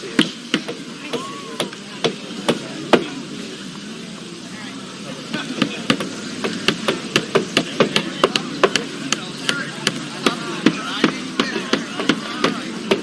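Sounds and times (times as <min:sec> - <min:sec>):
murmur of voices: 0:00.0 - 0:13.0
hammers striking: 0:00.1 - 0:03.2, 0:05.3 - 0:13.0.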